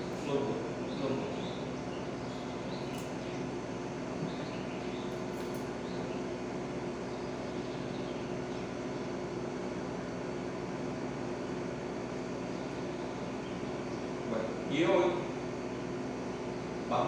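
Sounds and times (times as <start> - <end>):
room hum and hiss: 0.0 - 17.0.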